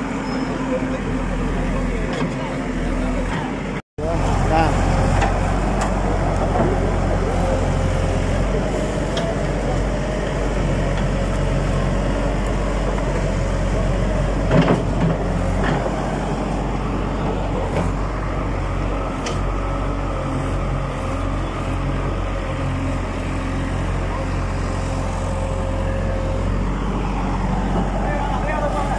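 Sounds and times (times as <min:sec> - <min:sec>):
backhoe diesel engine running: 0:00.0 - 0:28.9.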